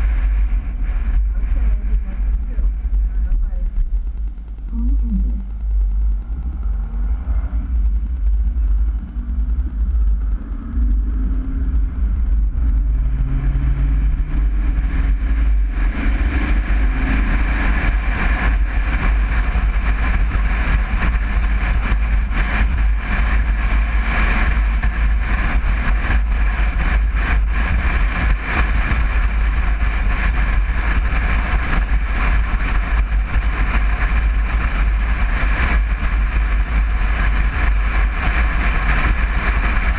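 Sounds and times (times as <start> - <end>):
road and wind noise: 0.0 - 39.9
van engine accelerating: 0.0 - 39.9.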